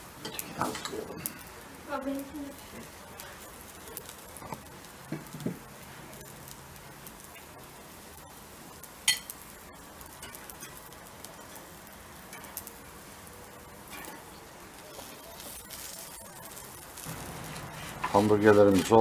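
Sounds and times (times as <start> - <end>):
patty sizzling on grill: 0.0 - 19.0.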